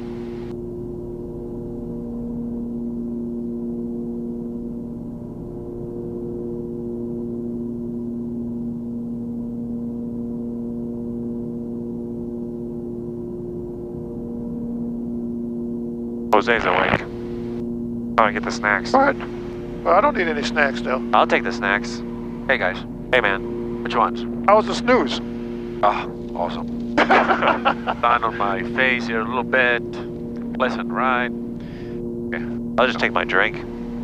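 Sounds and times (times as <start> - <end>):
airplane propeller engines droning: 0.0 - 34.0.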